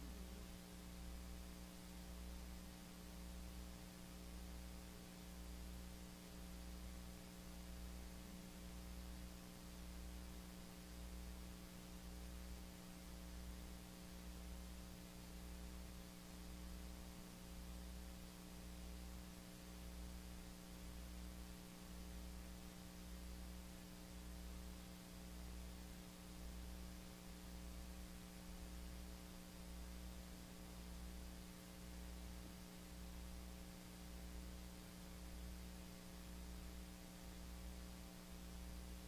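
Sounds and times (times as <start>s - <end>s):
electrical hum and hiss: 0.0s - 39.0s.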